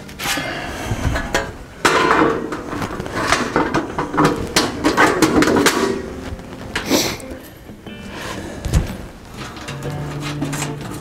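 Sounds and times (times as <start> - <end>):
sheet-metal panels clattering: 0.2 - 7.5, 8.6 - 11.0.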